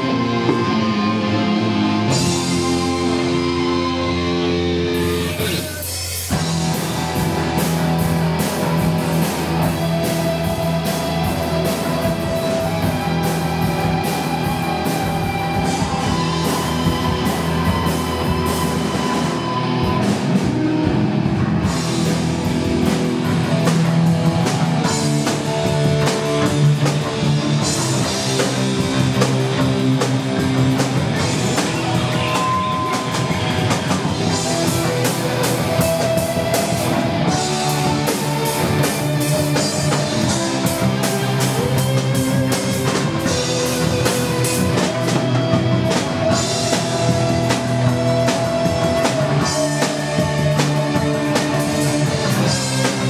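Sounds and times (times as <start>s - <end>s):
live heavy metal band: 0.0s - 53.0s.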